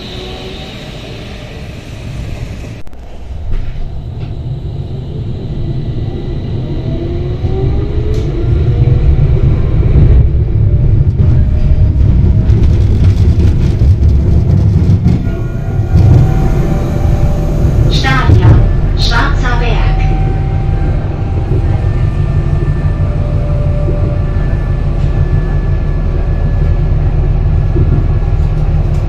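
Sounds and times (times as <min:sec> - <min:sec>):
tram rumbling on track: 0:00.0 - 0:29.0.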